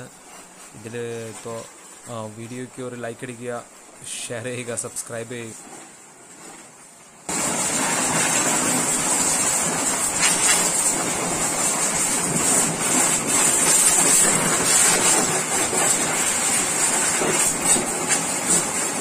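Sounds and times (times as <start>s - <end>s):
pressure washer spraying metal: 0.0s - 19.0s.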